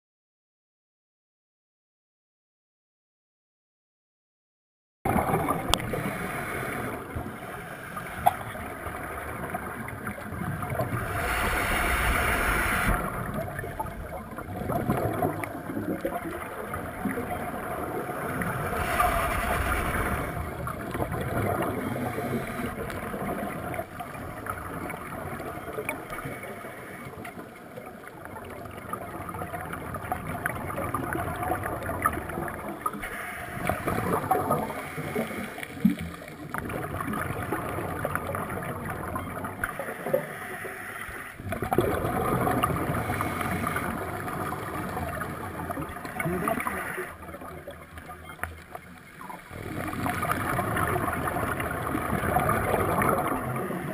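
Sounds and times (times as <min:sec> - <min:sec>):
rushes of bubbles: 0:05.1 - 0:26.4, 0:27.2 - 0:33.0, 0:33.6 - 0:40.2, 0:41.4 - 0:48.4, 0:49.1 - 0:53.9
bubbling of exhaled air underwater: 0:05.1 - 0:40.7, 0:41.4 - 0:53.9.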